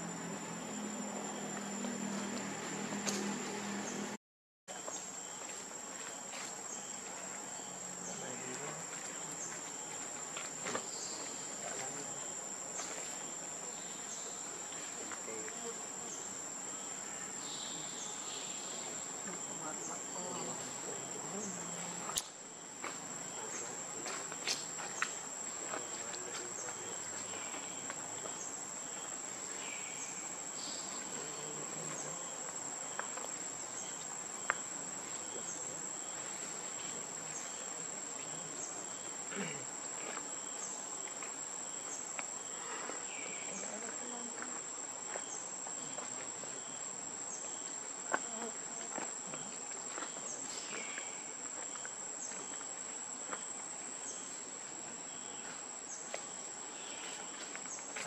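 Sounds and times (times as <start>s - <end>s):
insect chorus buzzing: 0.0s - 58.0s.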